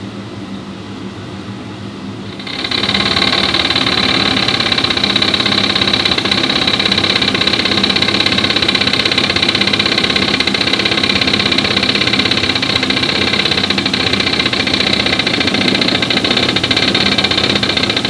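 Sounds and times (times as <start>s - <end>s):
car engine running: 2.4s - 18.0s.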